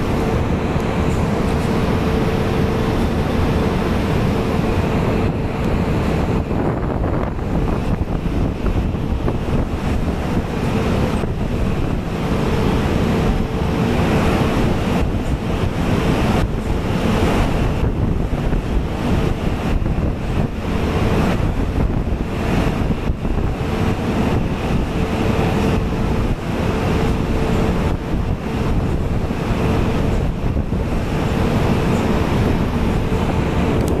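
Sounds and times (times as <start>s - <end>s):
storm waves breaking: 0.0s - 34.0s
wind buffeting microphone: 0.0s - 34.0s.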